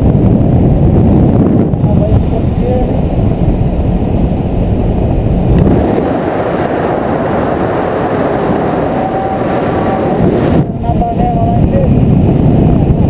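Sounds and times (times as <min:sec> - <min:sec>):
paramotor engine and propeller: 0:00.0 - 0:13.0
wind rush on microphone: 0:00.0 - 0:13.0.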